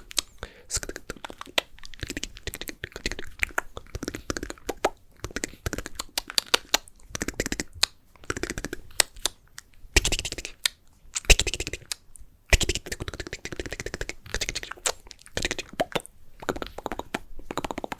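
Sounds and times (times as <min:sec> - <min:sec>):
hissy mouth smacks: 0:00.0 - 0:17.9
wet mouth clicks and tongue pops: 0:00.0 - 0:17.9.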